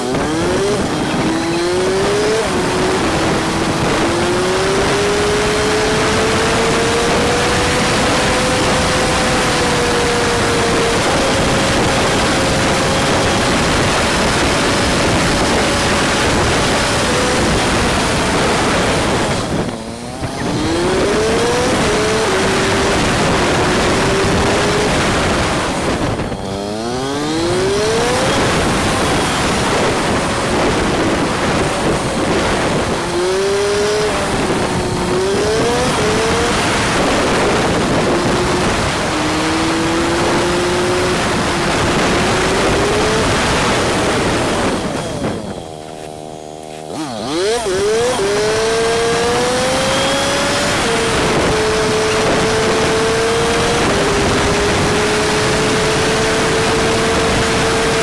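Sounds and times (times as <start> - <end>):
motorcycle engine revving through gears: 0.0 - 58.0
noisy rush: 0.0 - 58.0.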